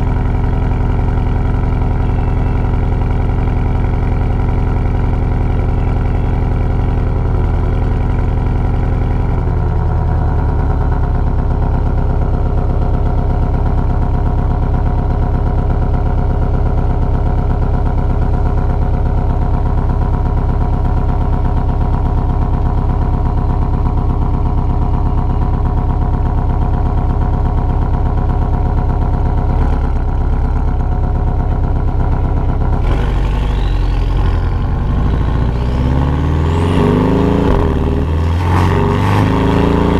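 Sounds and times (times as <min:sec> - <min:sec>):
car engine exhaust note: 0:00.0 - 0:39.9.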